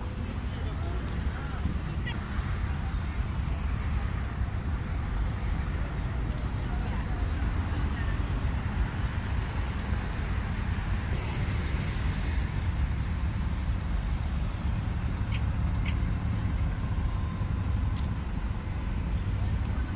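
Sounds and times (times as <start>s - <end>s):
boat diesel engines rumbling: 0.0s - 19.9s.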